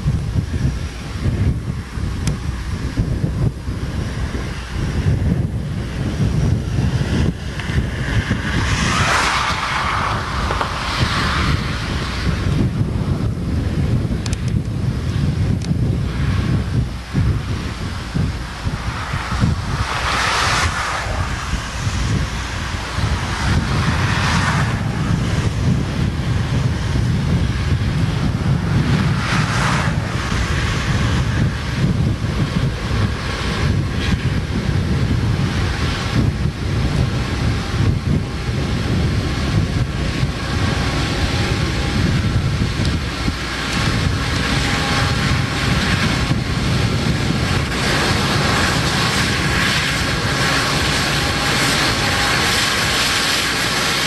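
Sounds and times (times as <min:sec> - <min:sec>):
diesel locomotive engine rumble: 0:00.0 - 0:54.0
wind buffeting microphone: 0:00.0 - 0:54.0.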